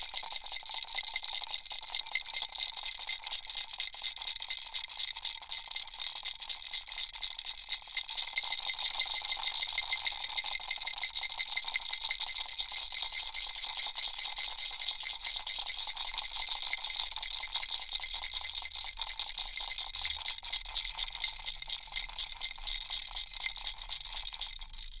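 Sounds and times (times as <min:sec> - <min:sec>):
baby rattle shaken: 0:00.0 - 0:25.0.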